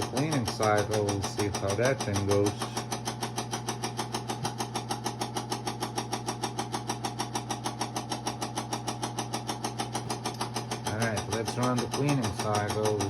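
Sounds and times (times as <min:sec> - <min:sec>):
ice maker humming: 0:00.0 - 0:13.0.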